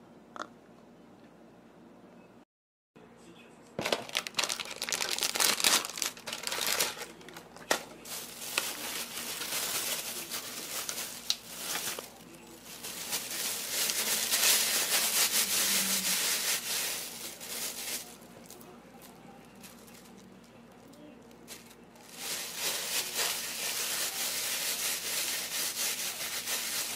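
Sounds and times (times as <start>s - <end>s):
dried seaweed crackling by hand: 3.8s - 26.9s.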